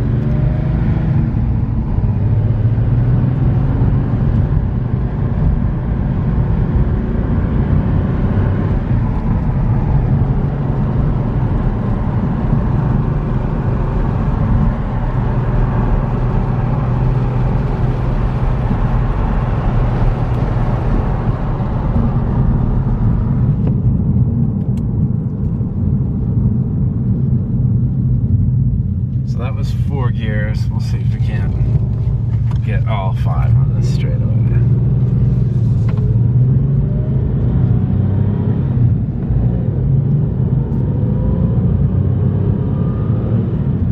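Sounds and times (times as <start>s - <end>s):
car engine running: 0.0s - 37.6s.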